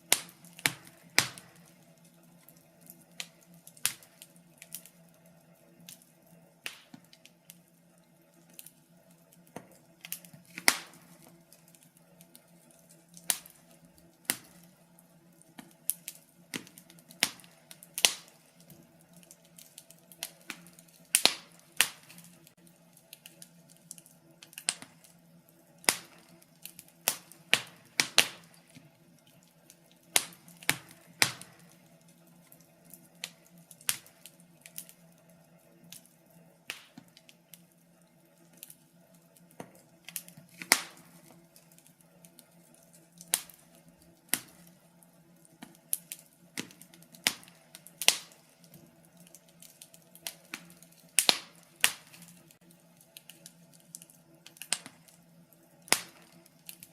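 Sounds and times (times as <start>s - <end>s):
faint steady hum: 0.0s - 56.9s
wood fire crackling and popping: 0.0s - 56.9s.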